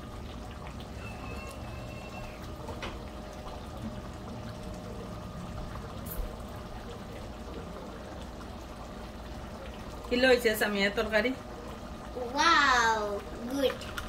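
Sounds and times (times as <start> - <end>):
curry gravy bubbling: 0.0 - 14.0.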